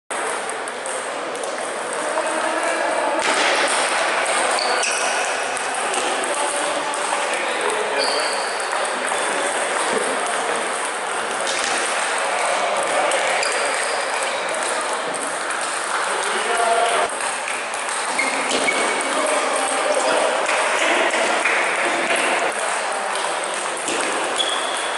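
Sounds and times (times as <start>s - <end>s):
ping-pong balls clicking: 0.1s - 2.5s, 3.6s - 24.9s
murmur of voices echoing: 0.1s - 24.9s.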